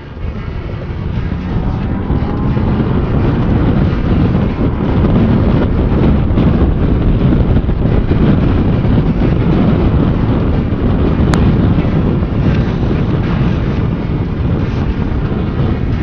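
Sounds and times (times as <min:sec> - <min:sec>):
motorcycle engine: 0:00.0 - 0:16.0
road noise: 0:00.0 - 0:16.0
wind rushing over microphone: 0:00.0 - 0:16.0.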